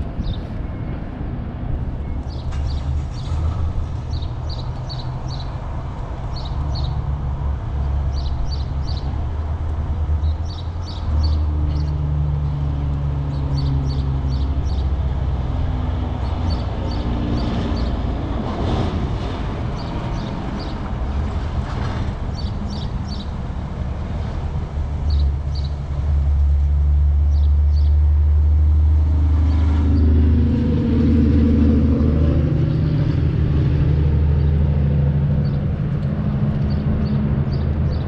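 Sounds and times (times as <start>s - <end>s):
low vehicle rumble: 0.0s - 38.0s.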